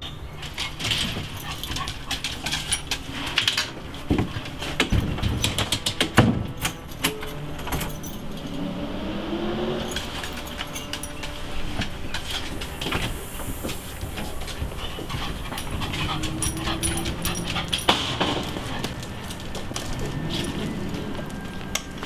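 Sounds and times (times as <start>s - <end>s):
metal screen door clacking: 0.0s - 8.7s, 9.7s - 13.2s, 14.2s - 20.9s
keys jangling: 0.4s - 8.6s, 9.8s - 12.7s, 13.8s - 21.8s.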